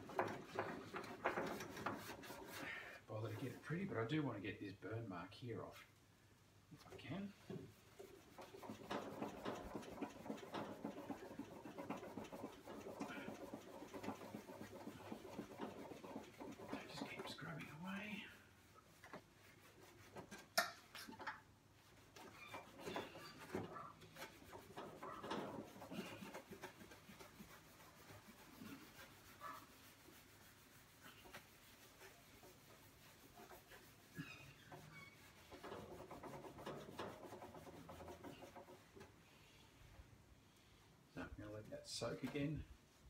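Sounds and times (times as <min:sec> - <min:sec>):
sponge scrubbing steel: 0:00.0 - 0:04.2, 0:07.1 - 0:39.2.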